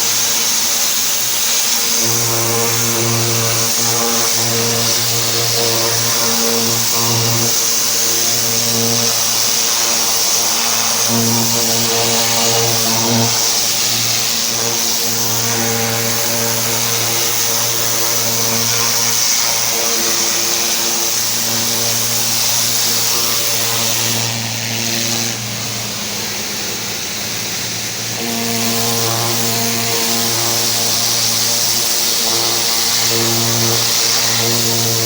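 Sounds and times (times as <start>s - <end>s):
pressure washer engine hum: 0.0s - 35.0s.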